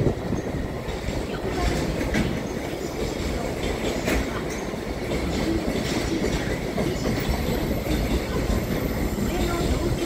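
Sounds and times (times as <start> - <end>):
freight train low rumble: 0.0 - 10.0
wheels clacking over rail joints: 0.0 - 10.0.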